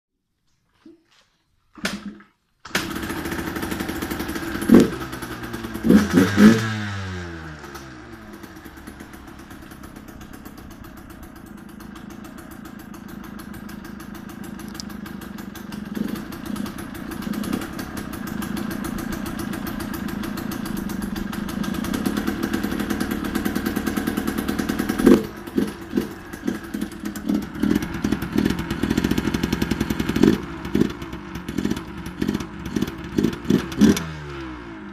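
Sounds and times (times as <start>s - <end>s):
motorcycle throttle blips: 1.7s - 34.9s
two-stroke motorcycle idling: 2.6s - 34.9s.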